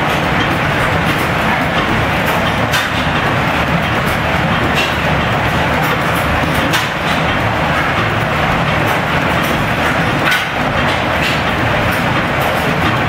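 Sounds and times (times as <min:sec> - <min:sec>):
flywheel gas engines running: 0:00.0 - 0:13.0
sharp mechanical clicks and knocks: 0:00.0 - 0:13.0.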